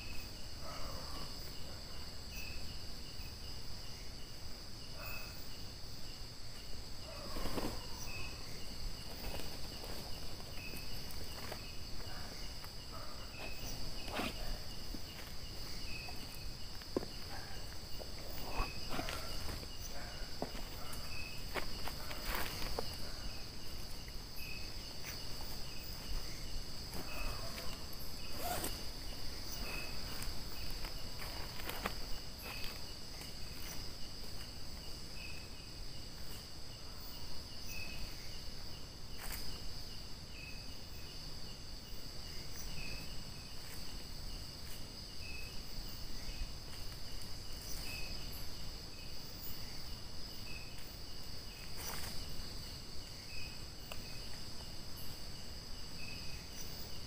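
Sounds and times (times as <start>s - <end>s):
insects trilling: 0.0s - 57.0s
short insect chirp: 0.0s - 57.0s.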